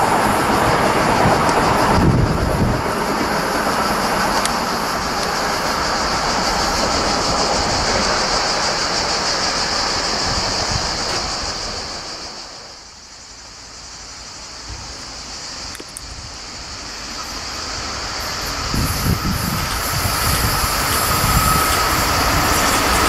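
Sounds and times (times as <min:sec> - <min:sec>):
approaching freight train: 0:00.0 - 0:23.0
train rolling rumble and hiss: 0:00.0 - 0:23.0.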